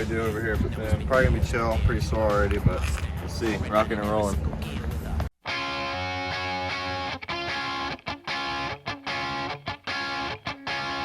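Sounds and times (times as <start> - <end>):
electric guitar background music: 0.0 - 11.0.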